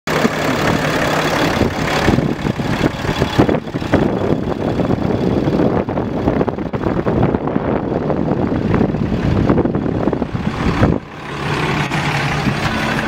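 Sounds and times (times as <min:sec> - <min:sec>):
diesel truck engine idling: 0:00.1 - 0:13.0
uneven gusty rush: 0:01.4 - 0:13.0.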